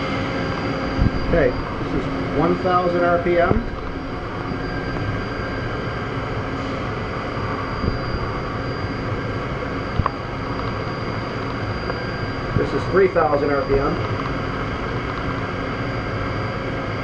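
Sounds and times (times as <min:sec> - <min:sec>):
faint high whine: 0:00.0 - 0:17.0
machine hum and hiss: 0:00.0 - 0:17.0.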